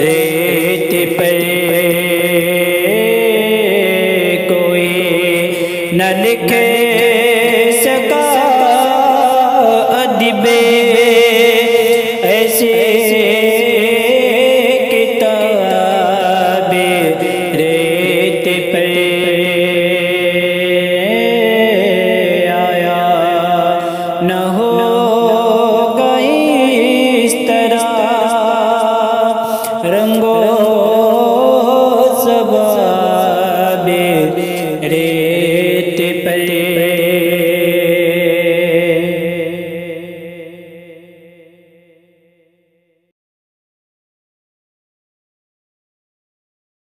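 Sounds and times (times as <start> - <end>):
man singing devotional poem: 0.0 - 41.9.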